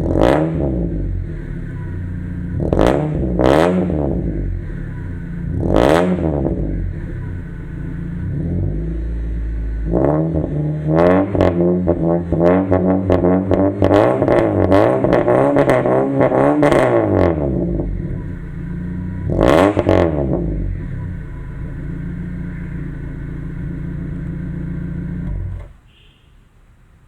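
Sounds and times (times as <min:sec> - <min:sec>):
car engine revving and idling: 0:00.0 - 0:25.8.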